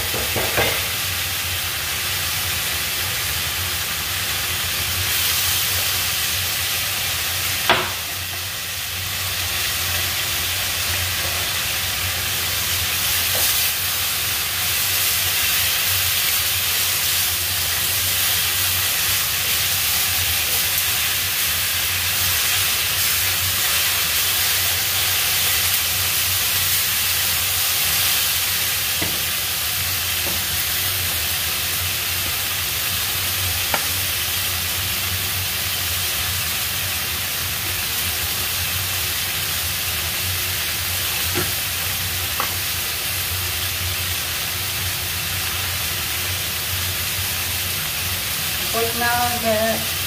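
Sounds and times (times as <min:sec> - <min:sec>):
vegetables sizzling in a frying pan: 0:00.0 - 0:50.0.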